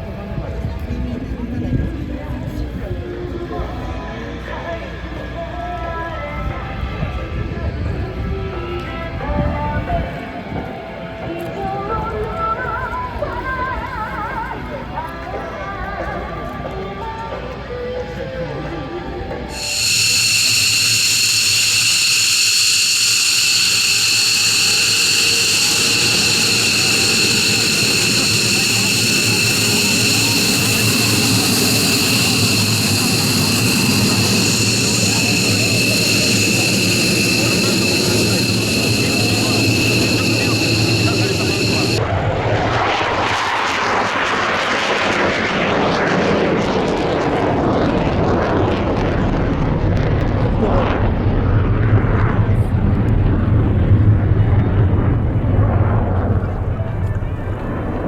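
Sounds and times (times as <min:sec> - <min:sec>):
jet engine whine: 0:00.0 - 0:18.2, 0:18.9 - 0:58.0.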